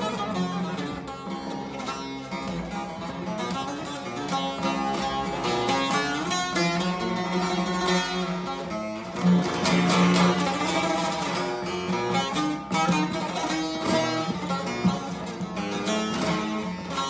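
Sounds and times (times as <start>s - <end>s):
saz strummed melody: 0.0s - 17.0s.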